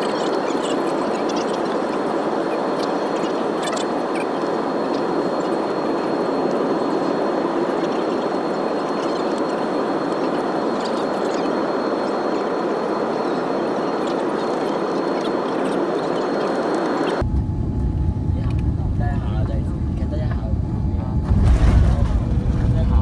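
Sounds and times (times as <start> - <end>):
airliner cabin engine rush: 0.0 - 23.0
faint high whine: 0.0 - 23.0.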